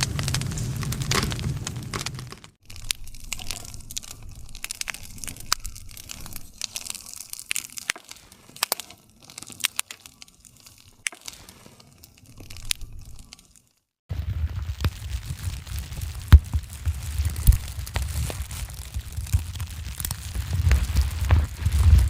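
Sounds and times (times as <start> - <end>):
campfire crackling and popping: 0.0 - 22.0
soft rustle of flames: 0.0 - 22.0.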